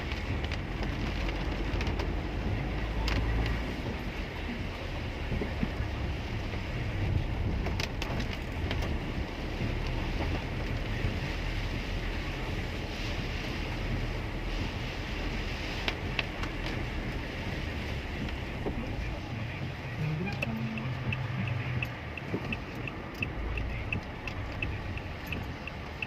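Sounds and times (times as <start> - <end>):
engine and tyre rumble: 0.0 - 26.0
rain and wind hiss: 0.0 - 26.0.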